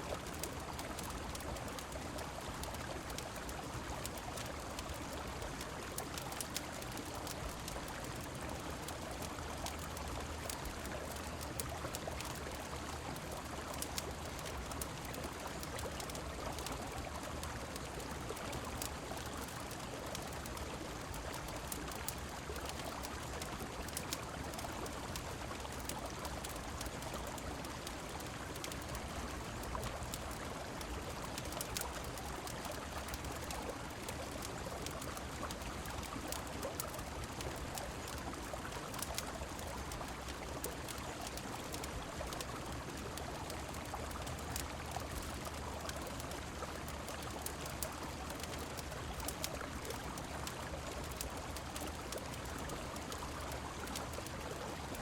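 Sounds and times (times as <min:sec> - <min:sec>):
rain falling: 0:00.0 - 0:55.0
wood fire crackling: 0:00.1 - 0:55.0.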